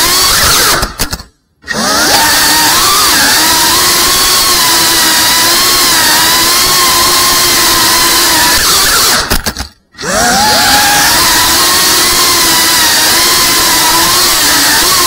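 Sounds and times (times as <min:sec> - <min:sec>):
quadcopter motors whining: 0:00.0 - 0:09.4, 0:10.0 - 0:15.0.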